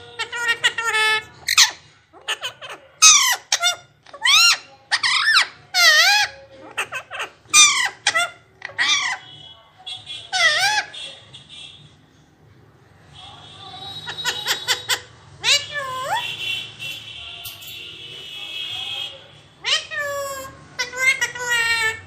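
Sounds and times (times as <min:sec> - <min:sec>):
parrot squeaky calls: 0:00.0 - 0:11.6, 0:13.2 - 0:17.8, 0:19.6 - 0:22.0.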